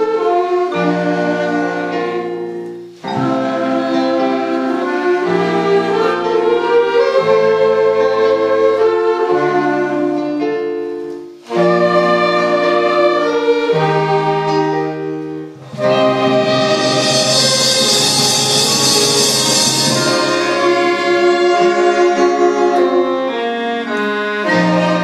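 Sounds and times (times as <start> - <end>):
wind band playing chords: 0.0 - 25.0.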